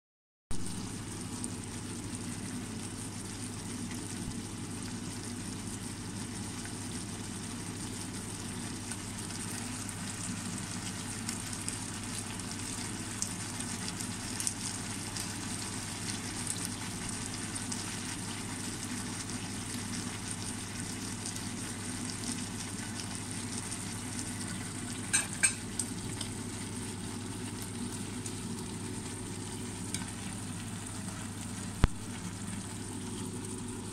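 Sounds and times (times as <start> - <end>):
food sizzling in oil: 0.5 - 33.9.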